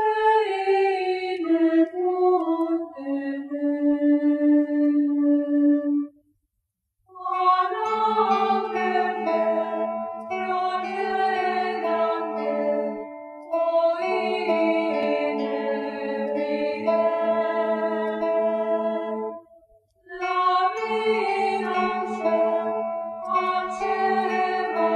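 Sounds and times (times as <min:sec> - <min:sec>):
slow choir-like vocal music: 0:00.0 - 0:06.2, 0:07.1 - 0:24.9.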